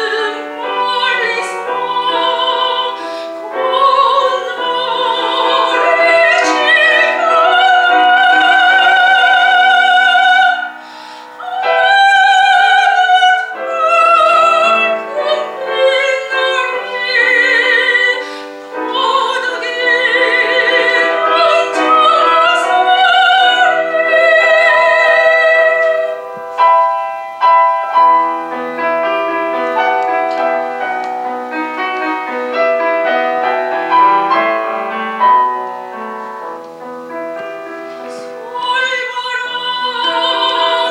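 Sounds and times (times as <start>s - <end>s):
piano: 0.0s - 40.9s
soprano singing with vibrato: 0.0s - 40.9s.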